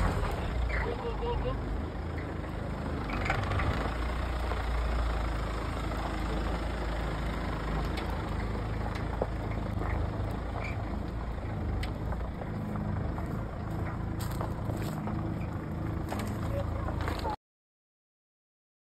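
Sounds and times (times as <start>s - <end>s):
vehicle engine at low revs: 0.0s - 17.4s.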